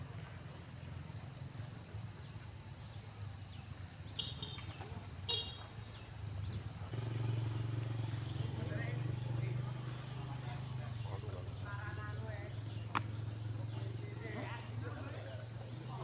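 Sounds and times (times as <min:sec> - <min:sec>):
insect chirping trill: 0:00.0 - 0:16.0.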